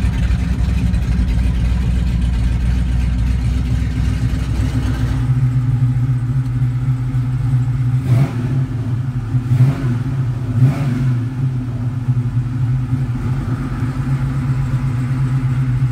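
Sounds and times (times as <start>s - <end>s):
engine idling: 0.0s - 15.9s
engine throttle blips: 0.0s - 15.9s.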